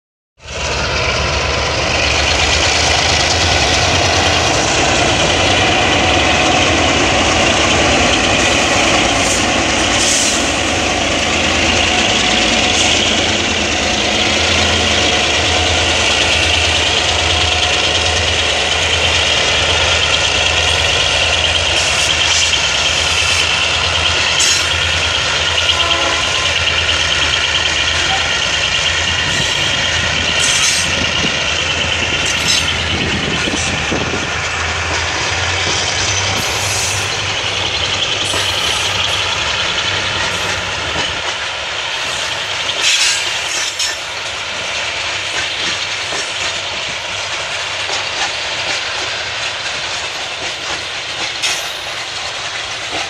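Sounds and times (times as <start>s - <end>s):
diesel locomotive engines throbbing: 0.4s - 53.0s
train wheels rumbling and clattering: 0.4s - 53.0s.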